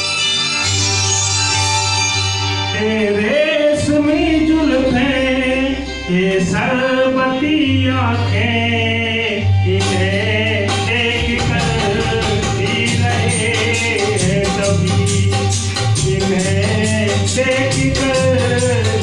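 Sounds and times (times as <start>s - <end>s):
music accompaniment with bass line: 0.0s - 19.0s
man singing into microphone: 2.7s - 19.0s.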